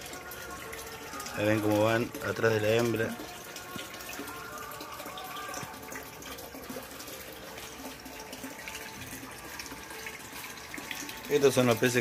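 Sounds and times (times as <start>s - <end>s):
water trickling into pond: 0.0s - 12.0s.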